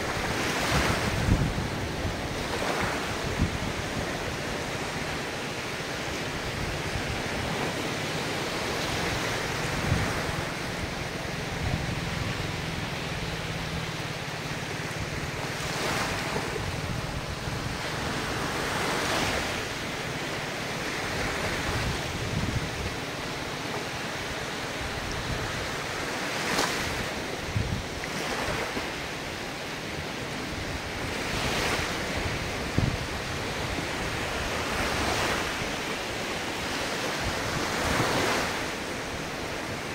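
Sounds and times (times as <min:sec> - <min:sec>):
wind buffeting microphone: 0:00.0 - 0:23.5, 0:24.2 - 0:28.9, 0:30.2 - 0:39.9
waves washing in: 0:00.0 - 0:39.9.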